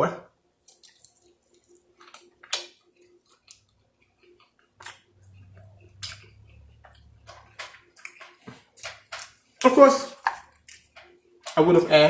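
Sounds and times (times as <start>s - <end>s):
wet chewing with clicks: 0.6s - 11.6s.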